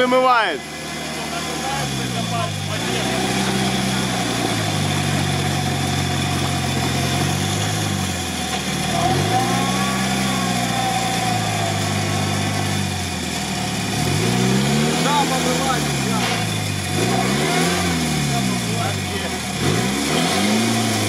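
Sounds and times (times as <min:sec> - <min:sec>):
engine labouring and revving: 0:00.0 - 0:21.0
wheels churning muddy water: 0:00.2 - 0:21.0.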